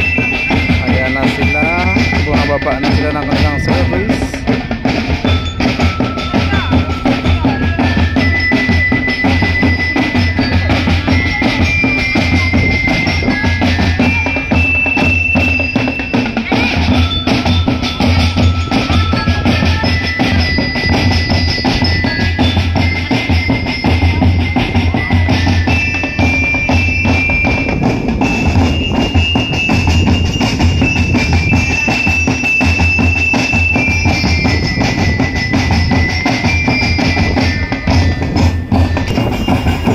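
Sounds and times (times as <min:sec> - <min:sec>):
pulsing drum beat: 0:00.0 - 0:39.9.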